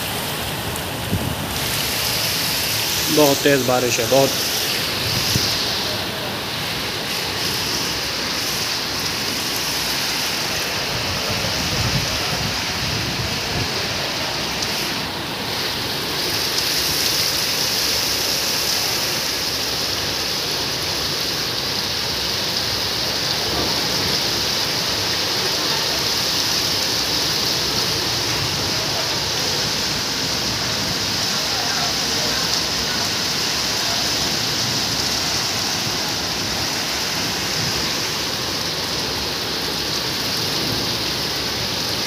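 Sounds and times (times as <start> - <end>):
heavy rain on rooftop: 0.0 - 42.0.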